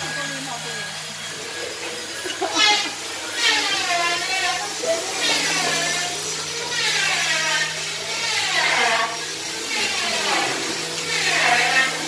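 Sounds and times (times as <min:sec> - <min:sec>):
power tool whining: 0:00.0 - 0:12.0.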